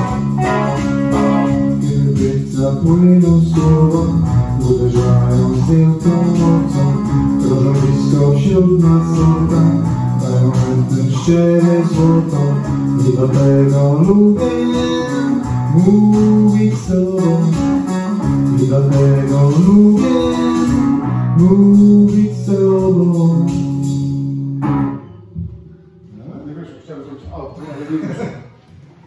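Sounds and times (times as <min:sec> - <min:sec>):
electric guitars playing: 0:00.0 - 0:26.5.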